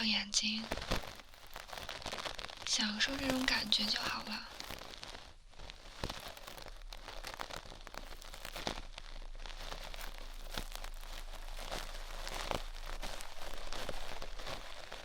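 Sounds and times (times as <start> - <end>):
close crackly scratching and rustling: 0.0 - 15.0.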